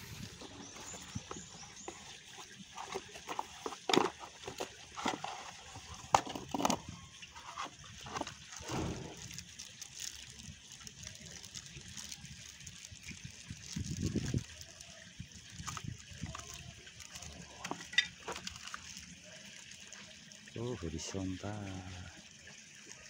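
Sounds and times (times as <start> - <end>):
packaging rustling and crinkling: 0.0 - 20.3.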